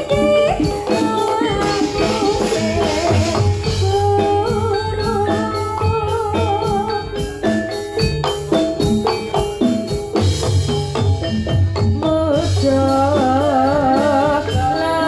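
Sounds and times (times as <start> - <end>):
metallophones ringing: 0.0 - 15.0
wavering held melody: 0.0 - 15.0.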